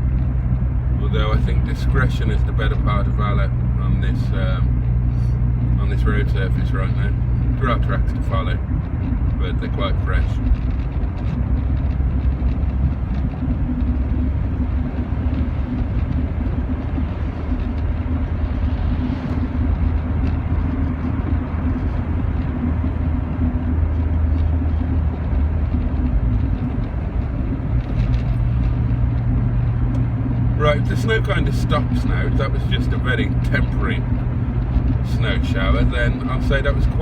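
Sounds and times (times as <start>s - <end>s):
car engine running: 0.0s - 37.0s
road noise: 0.0s - 37.0s.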